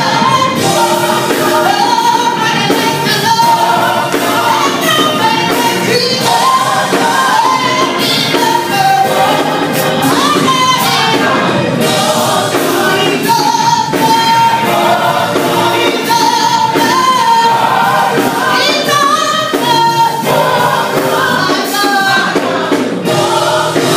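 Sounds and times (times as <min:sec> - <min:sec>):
gospel choir singing: 0:00.0 - 0:23.9.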